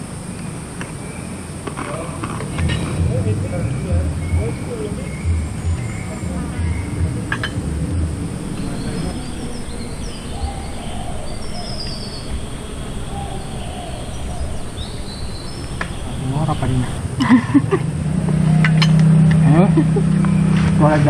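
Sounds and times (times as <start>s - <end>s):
crickets chirping: 0.0s - 21.0s
low steady hum: 0.0s - 21.0s
voices: 0.0s - 21.0s
faint bird calls: 0.3s - 17.6s.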